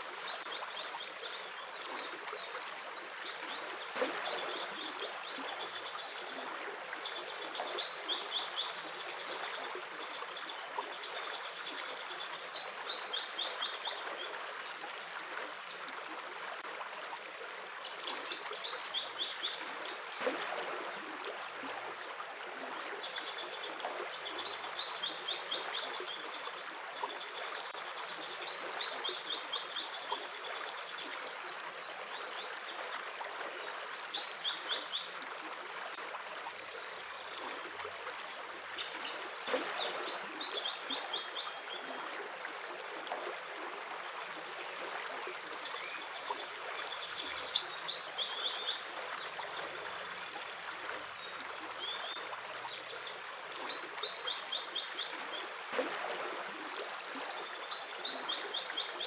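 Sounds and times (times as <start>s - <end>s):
water flowing: 0.0s - 59.0s.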